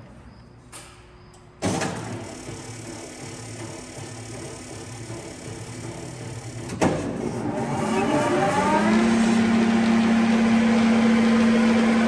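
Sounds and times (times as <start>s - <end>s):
lathe drive whine: 2.1s - 12.0s
lathe humming: 2.3s - 12.0s.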